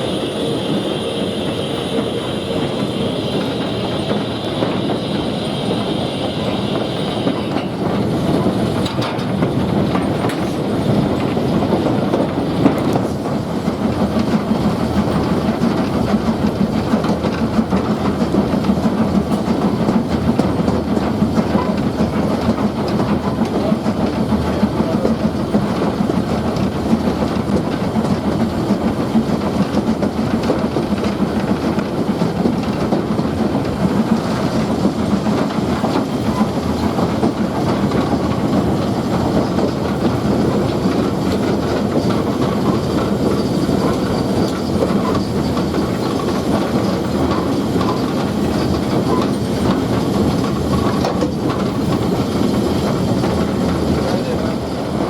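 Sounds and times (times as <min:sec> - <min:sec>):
train rumbling: 0:00.0 - 0:55.0
wheels clacking over rail joints: 0:00.0 - 0:55.0.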